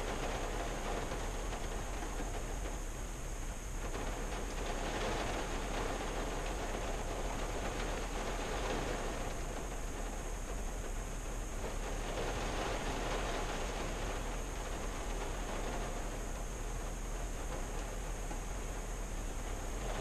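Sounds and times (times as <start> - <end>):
rain on car roof: 0.0 - 20.0.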